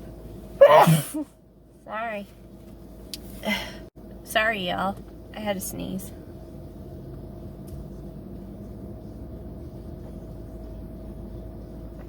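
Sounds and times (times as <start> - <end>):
car engine hum inside cabin: 0.0 - 12.0.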